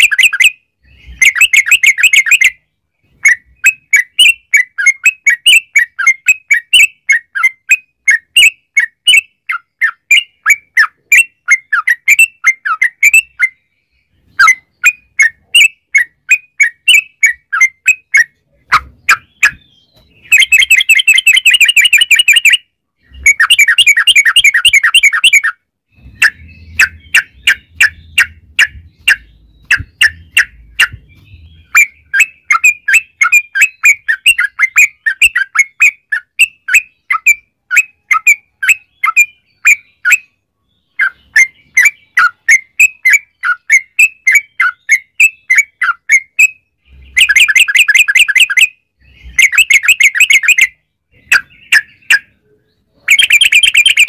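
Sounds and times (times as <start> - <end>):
bird singing chattering notes: 0.0 - 54.0.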